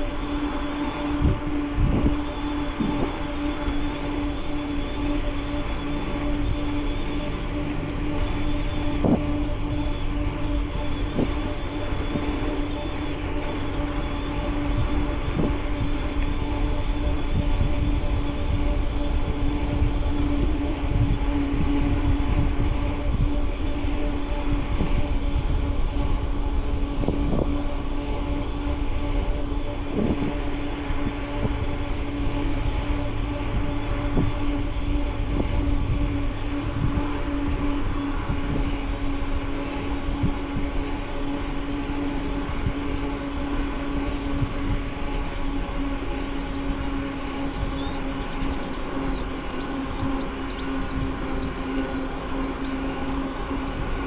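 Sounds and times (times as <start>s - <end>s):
constant hum: 0.0s - 54.0s
wind on microphone: 0.0s - 54.0s.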